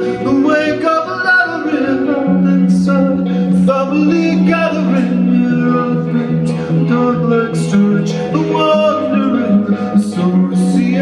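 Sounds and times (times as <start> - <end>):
live rock band playing: 0.0 - 11.0
man singing: 0.0 - 11.0.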